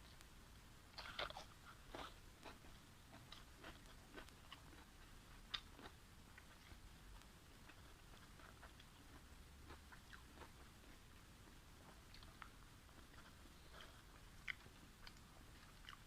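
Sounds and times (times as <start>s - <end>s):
person chewing: 1.0s - 6.8s, 7.6s - 16.0s.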